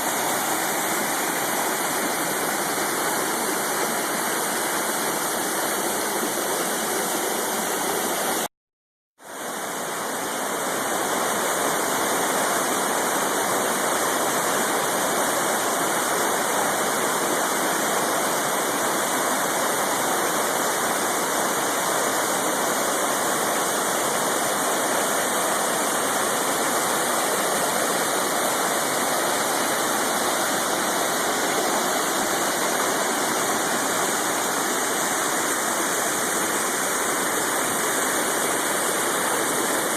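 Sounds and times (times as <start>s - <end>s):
waterfall rushing: 0.0s - 8.5s, 9.3s - 39.9s.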